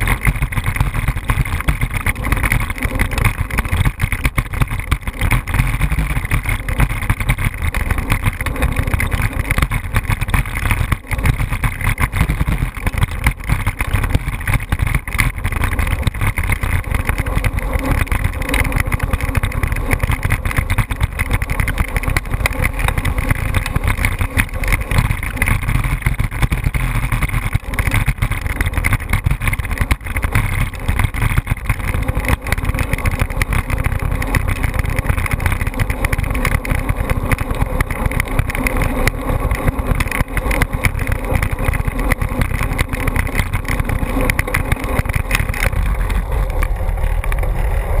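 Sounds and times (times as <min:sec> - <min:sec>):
engine running: 0:00.0 - 0:48.0
fluttering low rumble: 0:00.0 - 0:48.0.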